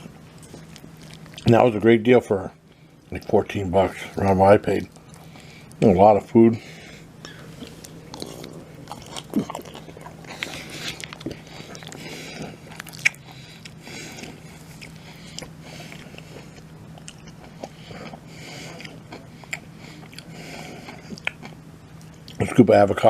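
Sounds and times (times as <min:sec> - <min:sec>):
person chewing food: 0:00.0 - 0:01.6, 0:02.7 - 0:05.8, 0:06.7 - 0:22.5
faint steady hum: 0:00.0 - 0:23.0.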